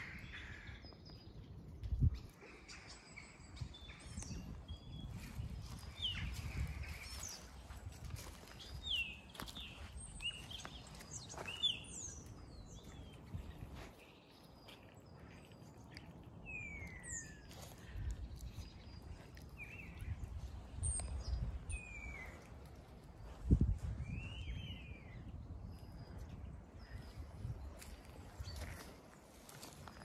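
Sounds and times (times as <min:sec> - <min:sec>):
wind rumble on microphone: 0:00.0 - 0:14.1, 0:14.7 - 0:30.0
songbirds singing and chirping: 0:00.0 - 0:30.0.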